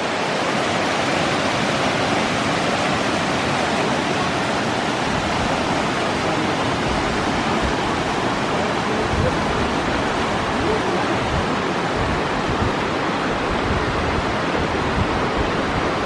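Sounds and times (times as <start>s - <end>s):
river water pouring over dam: 0.0s - 16.0s.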